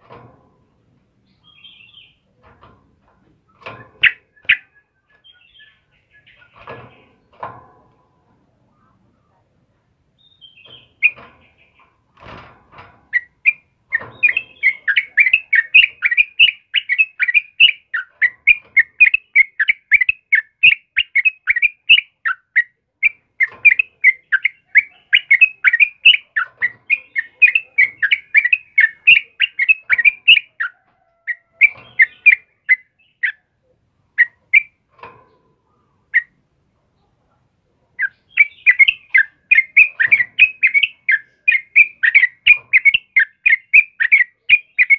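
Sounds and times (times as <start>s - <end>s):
bird chattering song: 1.2s - 2.3s, 3.5s - 7.4s, 10.2s - 12.2s, 13.1s - 37.2s, 37.9s - 44.9s.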